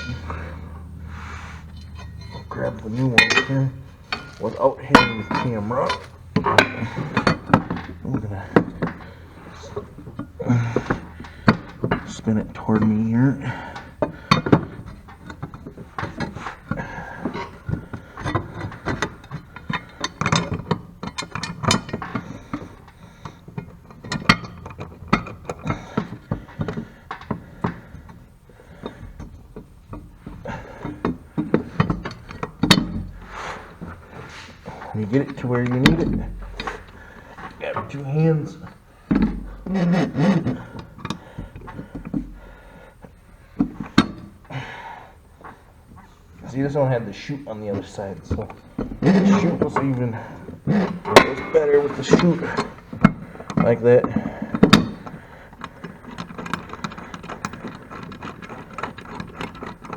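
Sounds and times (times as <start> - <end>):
metallic clicks and scrapes: 0.0 - 44.5, 45.4 - 59.9.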